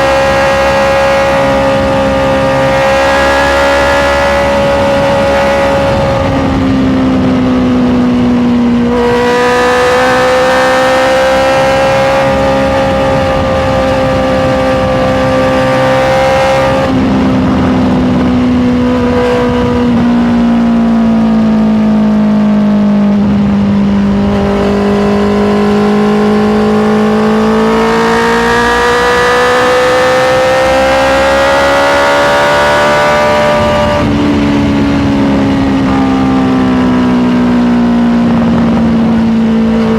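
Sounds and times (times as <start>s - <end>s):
motorcycle engine with gear changes: 0.0s - 39.9s.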